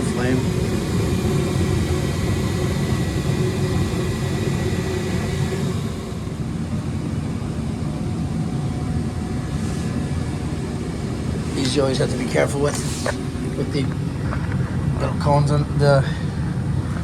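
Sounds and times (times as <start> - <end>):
gas furnace rumbling: 0.0 - 17.0.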